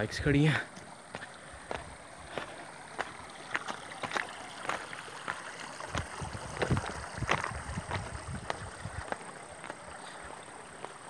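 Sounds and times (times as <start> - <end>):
footsteps crunching on gravel: 1.1 - 11.0.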